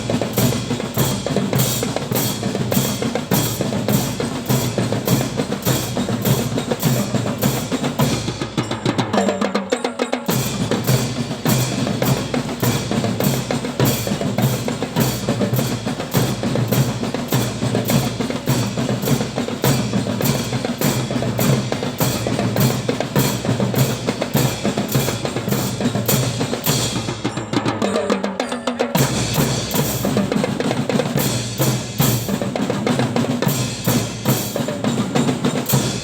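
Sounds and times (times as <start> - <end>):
live drums and percussion: 0.0 - 36.0
snare drum strokes: 0.0 - 36.0.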